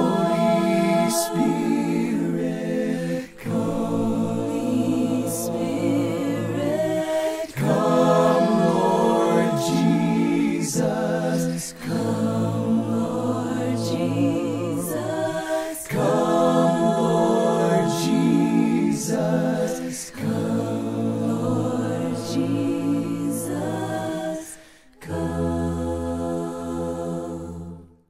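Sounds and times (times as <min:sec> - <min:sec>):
voices singing in harmony: 0:00.0 - 0:28.0.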